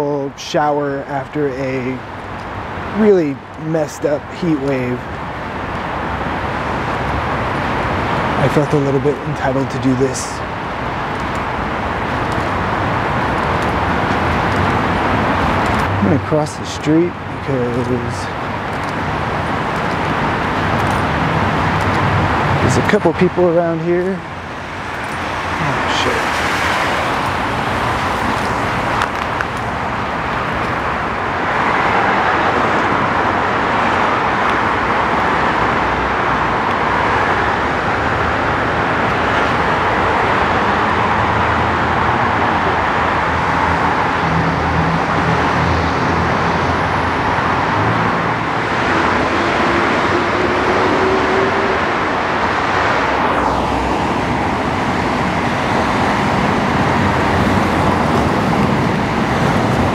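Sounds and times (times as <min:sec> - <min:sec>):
freeway traffic: 0:00.0 - 0:59.9.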